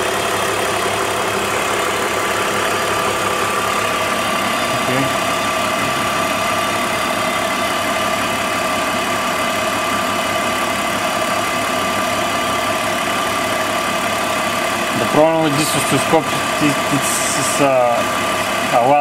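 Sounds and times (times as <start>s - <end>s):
car engine idling: 0.0s - 19.0s
high engine whine: 0.0s - 19.0s.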